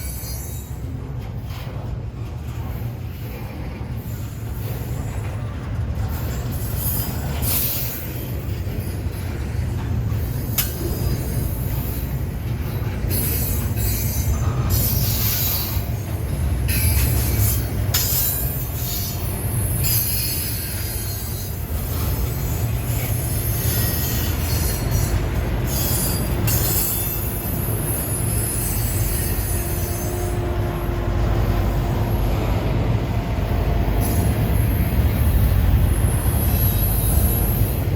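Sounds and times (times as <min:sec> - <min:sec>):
train rumbling on rails: 0:00.0 - 0:37.9.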